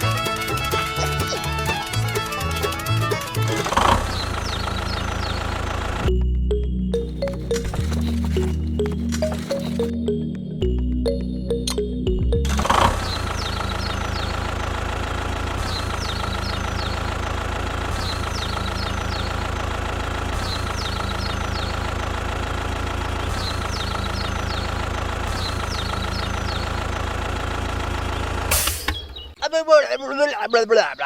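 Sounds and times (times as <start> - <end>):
engine idling with low rumble: 0.0 - 29.4.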